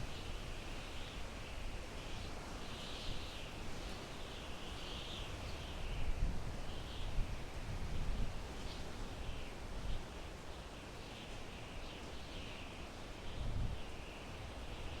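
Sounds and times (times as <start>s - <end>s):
wind through pine trees: 0.0s - 15.0s.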